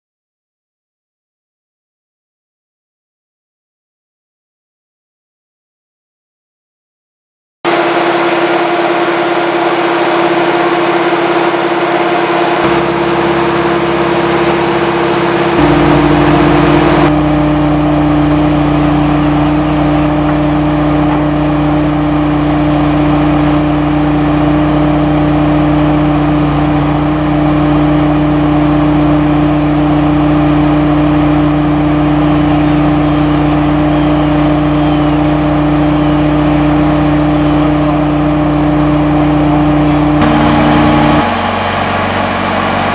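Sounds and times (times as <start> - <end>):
hydraulic whine: 7.7 - 42.9
tracked vehicle engine running: 7.7 - 42.9.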